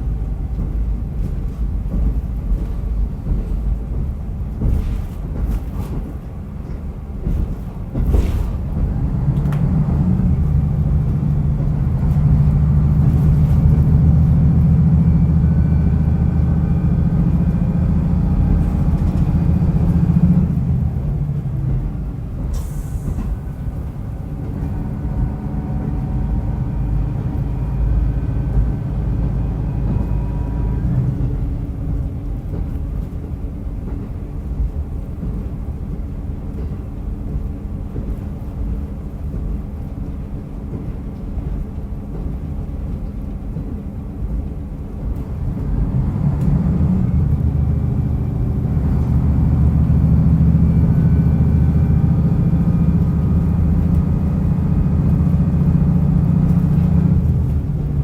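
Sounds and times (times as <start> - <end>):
diesel railcar engine drone: 0.0 - 58.0
train wheels rumbling on track: 0.0 - 58.0.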